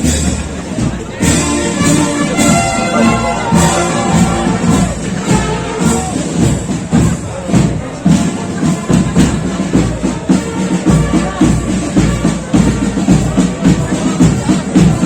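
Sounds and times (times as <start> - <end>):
marching band playing: 0.0 - 15.0
steady drum beat: 0.0 - 15.0.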